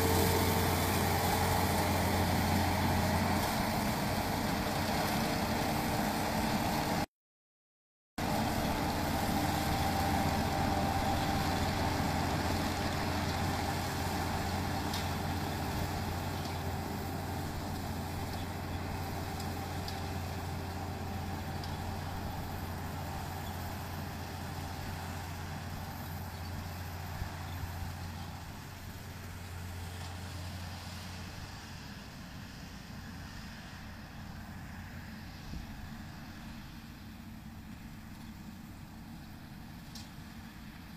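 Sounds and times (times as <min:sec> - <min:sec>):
diesel engine running: 0:00.0 - 0:07.1, 0:08.2 - 0:40.9.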